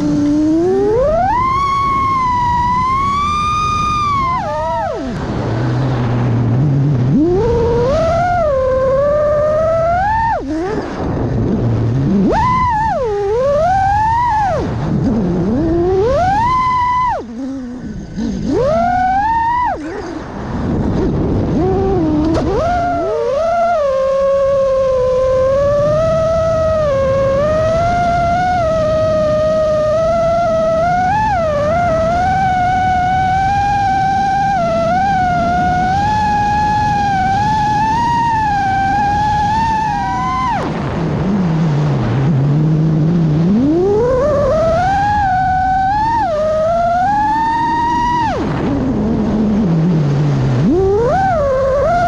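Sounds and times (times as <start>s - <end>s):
drone motors whining: 0.0s - 52.0s
wind noise: 0.0s - 52.0s.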